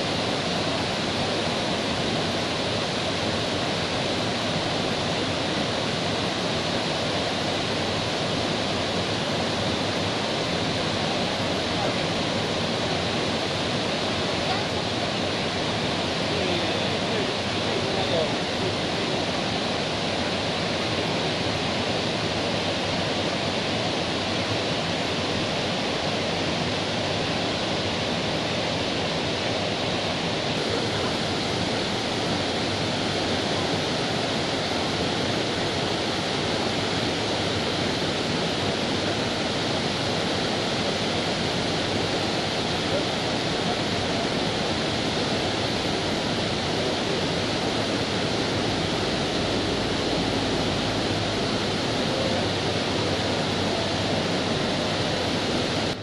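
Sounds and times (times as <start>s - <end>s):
river churning through rapids: 0.0s - 56.0s
waterfall rushing: 0.0s - 56.0s.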